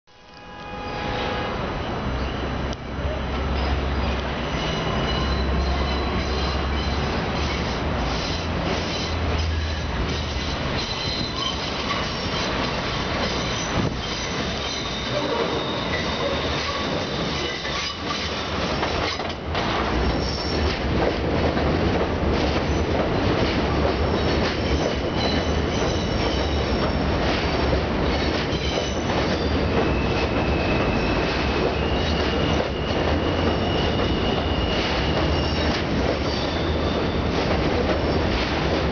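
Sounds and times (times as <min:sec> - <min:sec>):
train rumble and clatter: 0:00.3 - 0:38.9
train wheels squealing: 0:01.8 - 0:19.4, 0:20.0 - 0:20.7, 0:24.1 - 0:27.1, 0:28.0 - 0:38.4.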